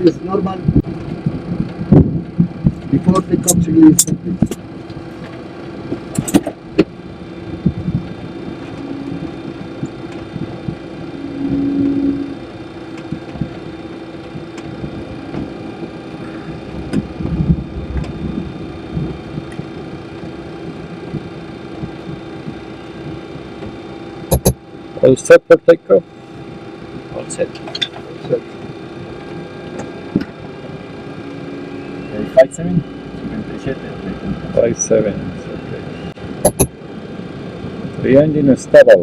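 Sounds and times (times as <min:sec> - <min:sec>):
cockpit engine hum and rumble: 0:00.0 - 0:39.0.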